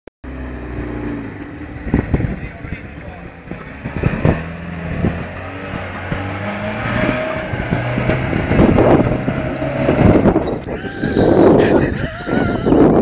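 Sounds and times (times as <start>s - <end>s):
truck engine under load: 0.2s - 12.6s.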